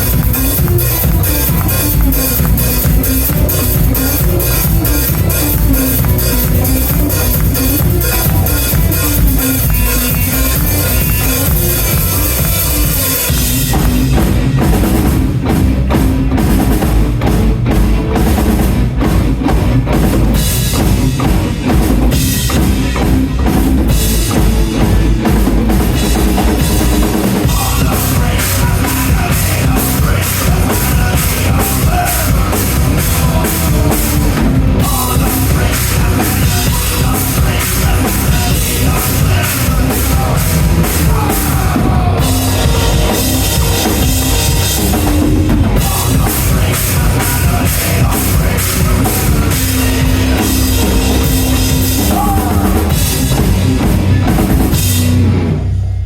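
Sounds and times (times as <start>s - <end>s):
rock music with drum beat: 0.0s - 56.0s.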